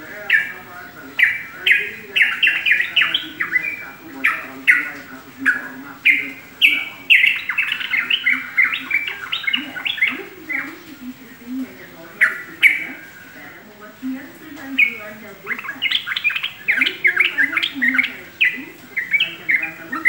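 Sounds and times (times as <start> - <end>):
bulbul chirping song: 0.0 - 20.0.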